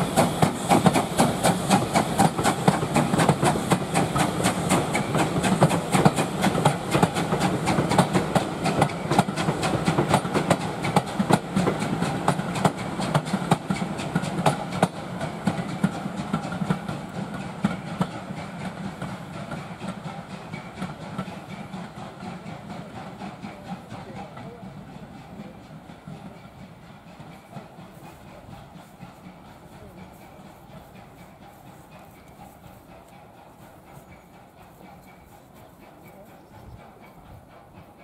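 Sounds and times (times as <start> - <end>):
train wheels clattering over rail joints: 0.0 - 38.0.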